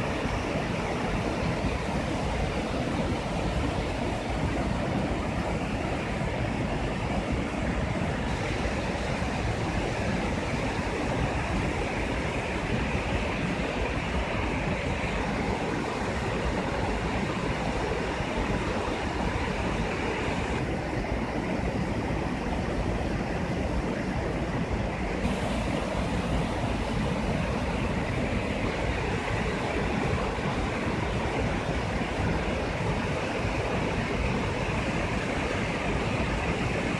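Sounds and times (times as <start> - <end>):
water rushing over dam spillway: 0.0 - 36.9.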